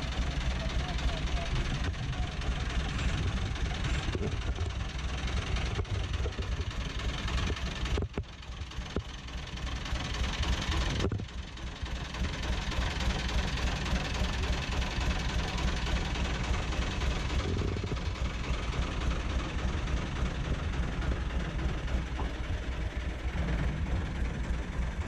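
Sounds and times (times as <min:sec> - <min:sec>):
boat engine throbbing: 0:00.0 - 0:25.0.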